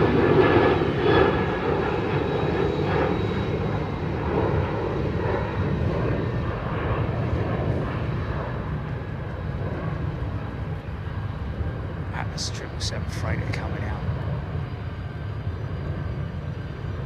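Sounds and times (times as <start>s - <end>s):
jet engines rumbling with whine: 0.0s - 17.0s.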